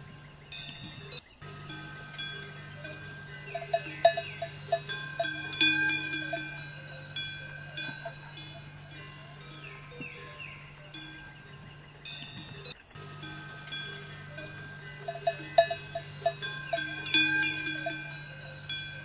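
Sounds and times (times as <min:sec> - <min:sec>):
metallic bells clanking: 0:00.0 - 0:19.0
steady low hum: 0:00.0 - 0:19.0.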